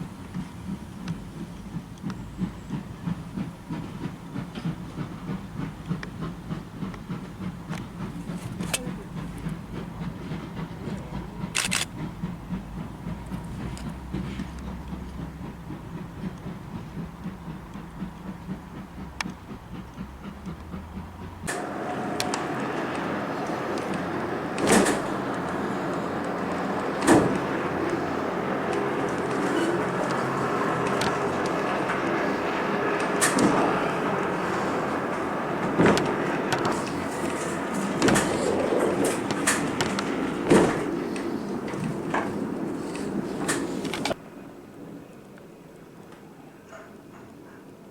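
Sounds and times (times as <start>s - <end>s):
train rumble: 0.0s - 47.9s.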